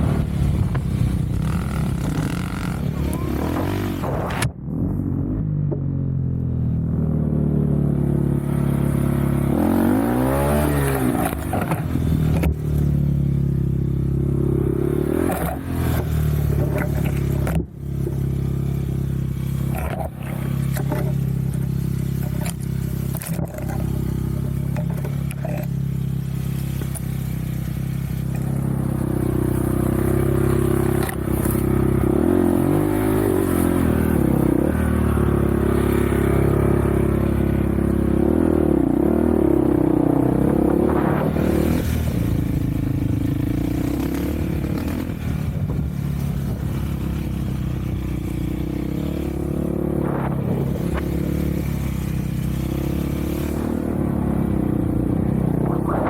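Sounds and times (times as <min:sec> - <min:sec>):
off-road vehicle engine revving: 0:00.0 - 0:05.8, 0:06.8 - 0:56.0.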